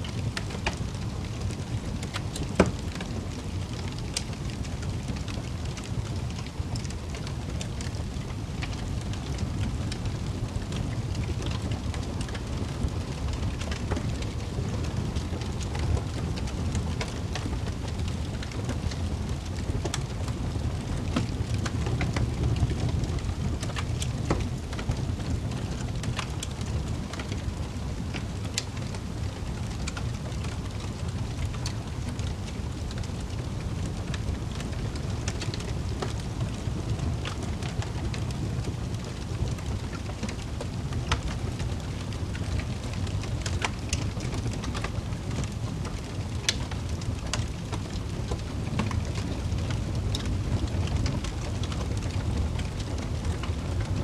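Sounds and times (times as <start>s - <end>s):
log fire burning: 0.0s - 54.0s.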